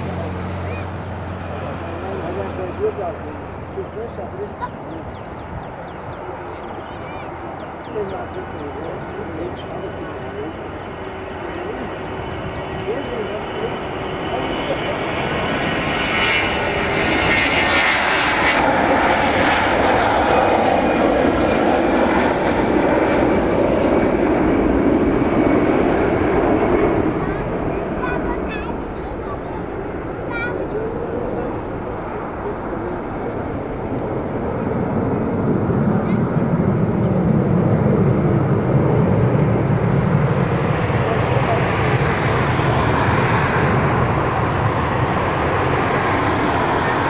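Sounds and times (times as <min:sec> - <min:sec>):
jet engines rushing: 0:00.0 - 0:47.0.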